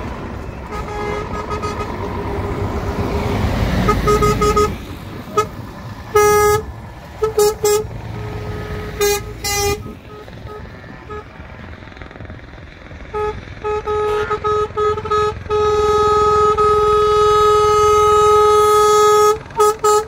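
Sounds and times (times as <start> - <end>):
truck engine and tyre rumble: 0.0 - 20.0
truck horn toots: 0.4 - 11.6, 13.0 - 20.0.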